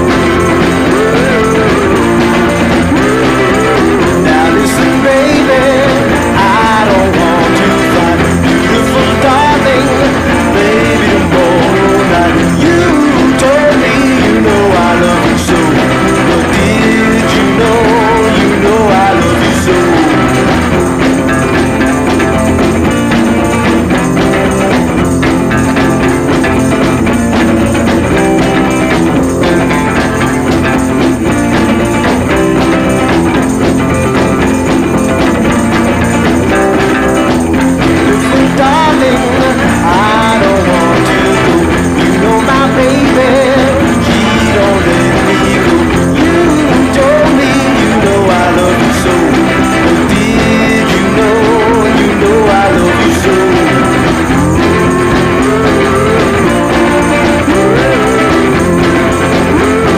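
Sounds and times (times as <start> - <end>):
person singing: 0.0 - 59.9
song with guitar: 0.0 - 59.9.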